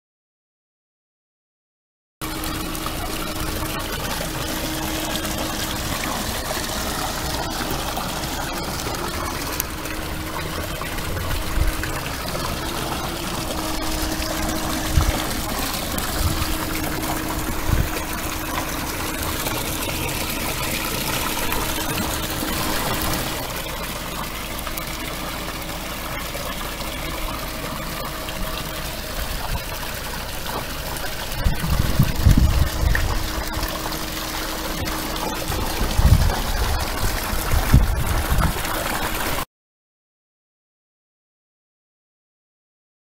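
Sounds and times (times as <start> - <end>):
low hum: 2.2 - 39.4
water pouring into stone trough: 2.2 - 39.4.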